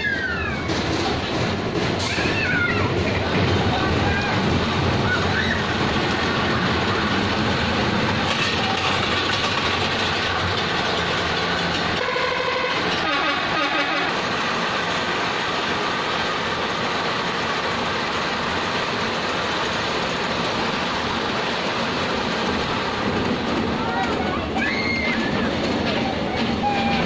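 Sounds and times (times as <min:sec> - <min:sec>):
roller coaster wheels clattering: 0:00.0 - 0:27.0.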